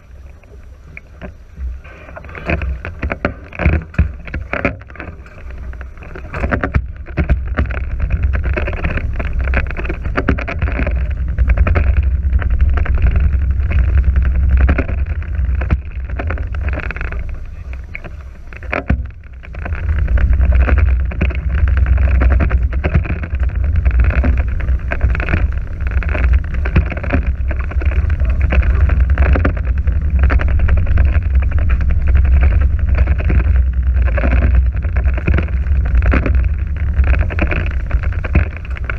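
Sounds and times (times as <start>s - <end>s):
water rushing past hulls: 0.0s - 38.9s
wind buffeting microphone: 6.2s - 38.9s.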